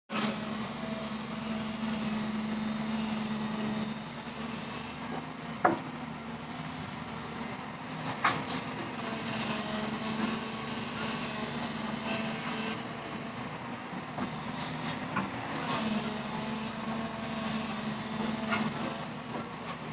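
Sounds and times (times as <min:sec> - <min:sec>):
diesel engine running: 0:00.1 - 0:19.9.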